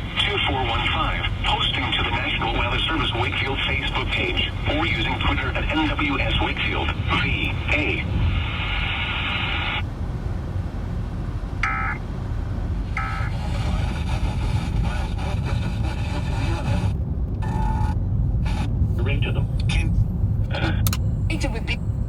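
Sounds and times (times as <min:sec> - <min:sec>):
radio static hiss: 0:00.0 - 0:09.8, 0:11.6 - 0:12.0, 0:12.8 - 0:19.9, 0:20.5 - 0:21.8
engine and road rumble: 0:00.0 - 0:22.0.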